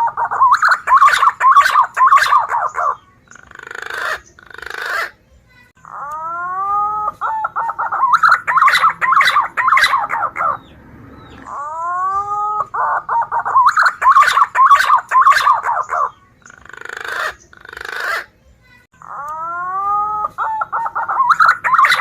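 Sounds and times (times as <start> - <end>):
pigeon whistled calls: 0.0 - 5.1, 5.9 - 18.3, 19.1 - 22.0.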